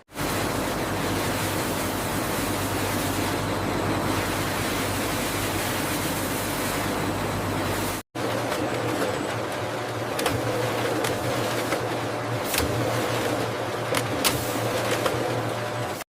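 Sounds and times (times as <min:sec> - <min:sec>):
low machinery hum: 0:00.1 - 0:16.0.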